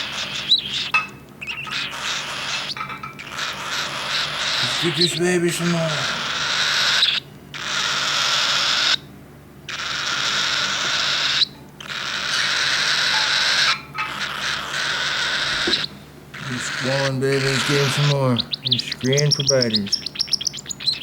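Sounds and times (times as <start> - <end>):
bird chick begging squall: 0.0 - 21.0.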